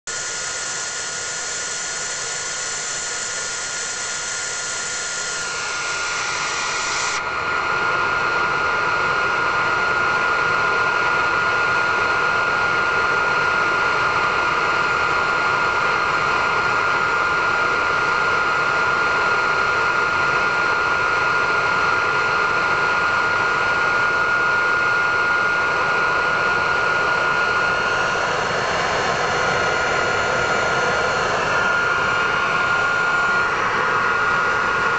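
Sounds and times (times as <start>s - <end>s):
jet exhaust roar: 0.0s - 34.9s
turbojet engine whine: 0.0s - 34.9s.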